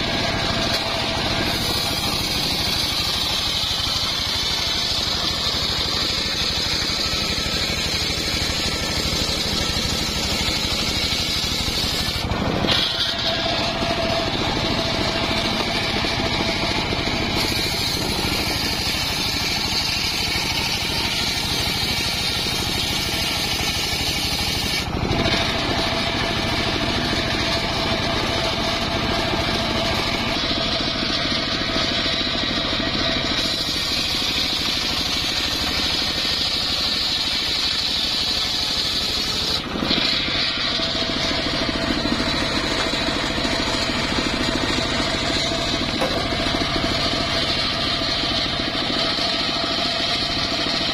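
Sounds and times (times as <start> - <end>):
circular saw ripping a log: 0.0 - 50.9.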